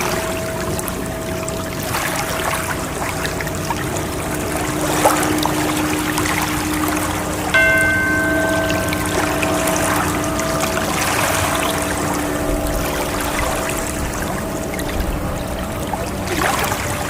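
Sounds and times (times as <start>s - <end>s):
chime ringing: 0.0s - 17.0s
water trickling and splashing: 0.0s - 17.0s.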